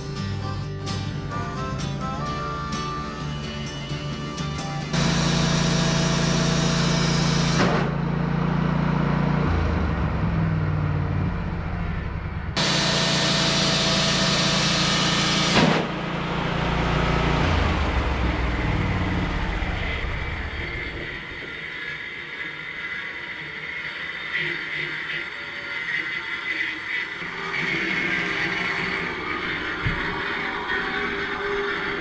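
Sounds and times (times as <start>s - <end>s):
sawmill engine hum: 0.0s - 32.0s.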